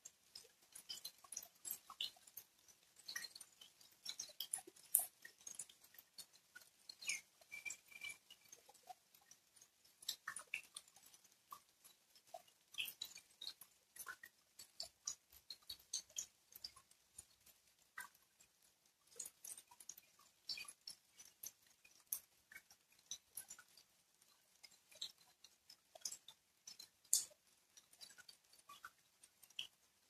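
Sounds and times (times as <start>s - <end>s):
raindrops ticking on wet ground: 0.0s - 30.0s.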